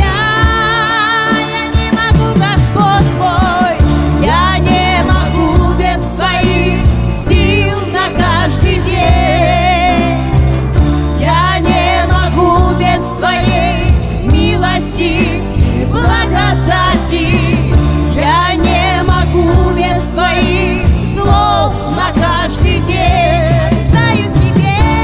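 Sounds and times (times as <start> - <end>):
bass guitar: 0.0 - 25.0
electric guitar: 0.0 - 25.0
man and woman singing: 0.0 - 25.0.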